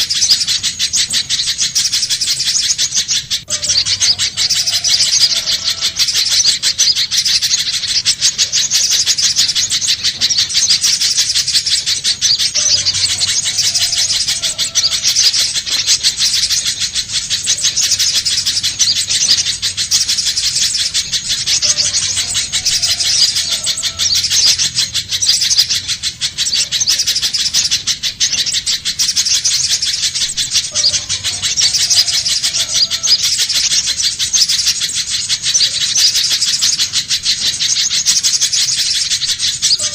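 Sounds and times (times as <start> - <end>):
bird calling rapid high chips: 0.0 - 39.9.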